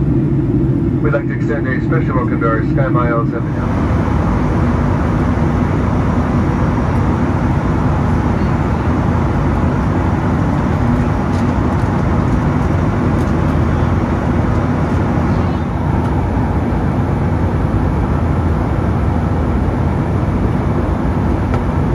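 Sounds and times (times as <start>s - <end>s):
airplane cabin engine rumble: 0.0s - 21.9s
faint hum: 0.0s - 21.9s.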